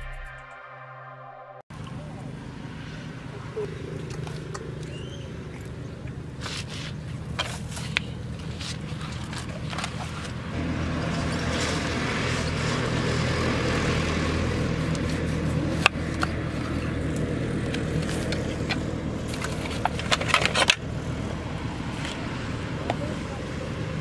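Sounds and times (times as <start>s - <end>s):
low motor hum: 1.2s - 24.0s.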